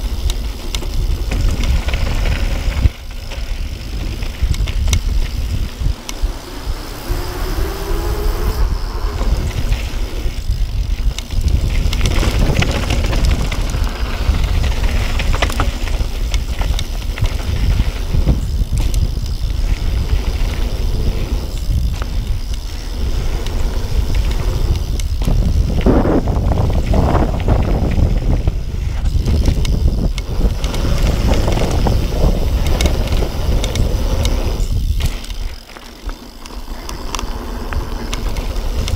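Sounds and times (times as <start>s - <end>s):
bike clattering over bumps: 0.0s - 38.9s
bike tyres on dirt trail: 0.0s - 38.9s
wind buffeting microphone: 0.0s - 38.9s.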